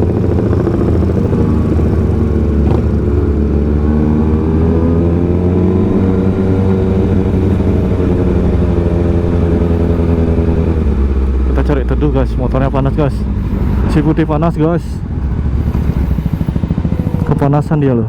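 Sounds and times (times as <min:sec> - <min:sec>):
motorcycle engine at low revs: 0:00.0 - 0:17.8.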